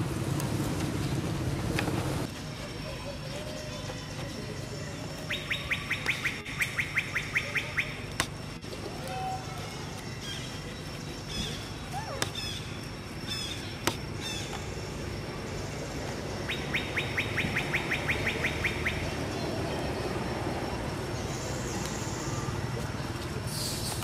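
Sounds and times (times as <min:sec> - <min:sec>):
steady low hum: 0:00.0 - 0:24.0
birds chirping: 0:00.9 - 0:24.0.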